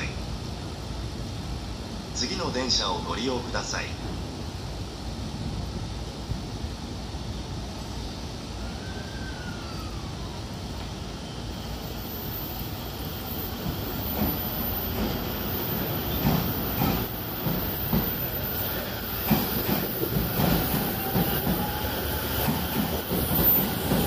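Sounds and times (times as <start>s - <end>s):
electric train rumble: 0.0s - 24.0s.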